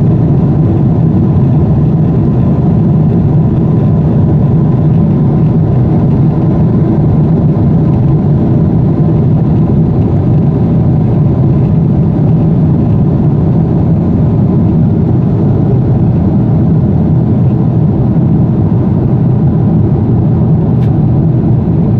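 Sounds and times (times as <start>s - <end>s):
airliner cabin engine rush: 0.0s - 21.9s.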